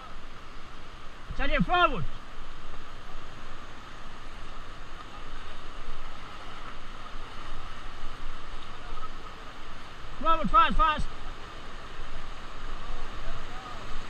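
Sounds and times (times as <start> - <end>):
river water rushing and splashing: 0.0 - 14.0.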